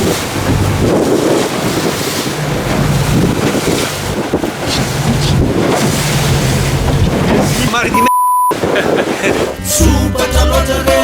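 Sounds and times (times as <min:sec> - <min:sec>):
wind buffeting microphone: 0:00.0 - 0:09.6
low boat engine hum: 0:00.0 - 0:09.8
sea water rushing against boat: 0:00.0 - 0:10.0.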